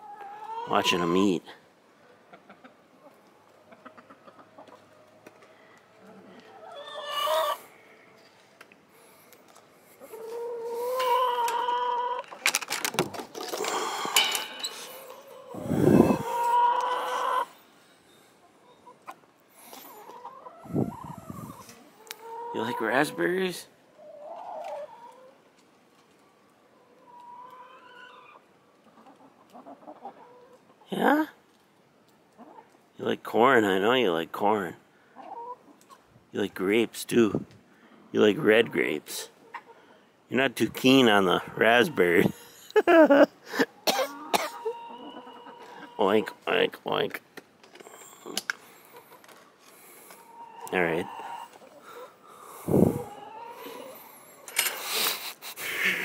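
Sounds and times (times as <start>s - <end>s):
chickens calling: 0.0s - 8.2s, 9.0s - 31.2s, 32.1s - 32.8s, 35.0s - 36.1s, 38.2s - 47.0s, 47.7s - 56.0s
chickens clucking: 0.0s - 8.5s, 9.5s - 32.8s, 35.0s - 36.2s, 38.3s - 47.1s, 47.7s - 56.0s.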